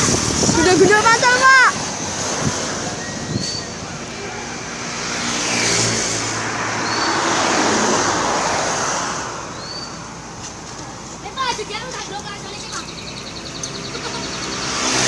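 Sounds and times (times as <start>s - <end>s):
vehicle passing close by: 0.0s - 10.4s, 12.8s - 15.0s.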